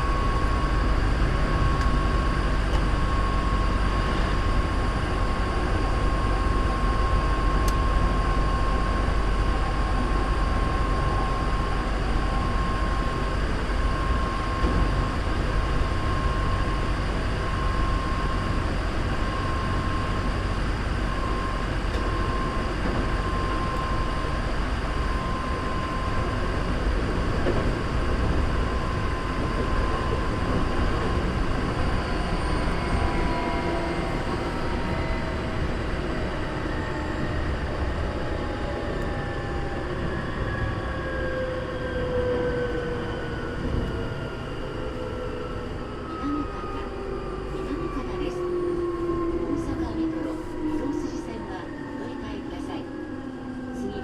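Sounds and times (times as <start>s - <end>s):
train wheels rumbling on rail: 0.0s - 52.9s
electric train motor whine: 0.0s - 54.0s.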